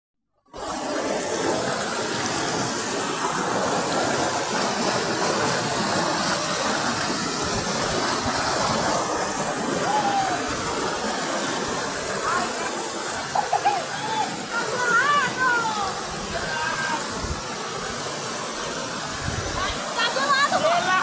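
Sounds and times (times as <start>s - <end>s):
flowing water rushing: 0.4s - 21.0s.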